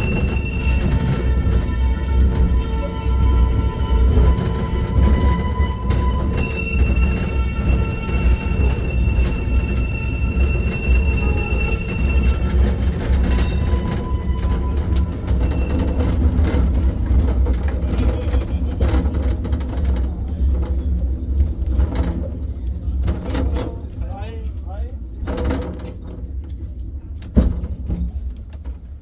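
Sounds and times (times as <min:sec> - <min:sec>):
wheels squealing: 0:00.0 - 0:27.0
tram rumbling on rails: 0:00.0 - 0:29.0.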